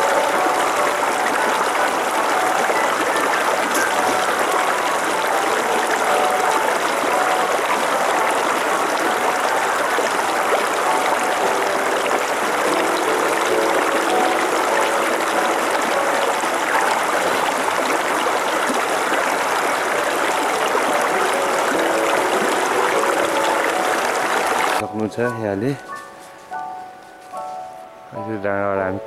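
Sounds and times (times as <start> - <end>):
stream rushing over stones: 0.0 - 24.8.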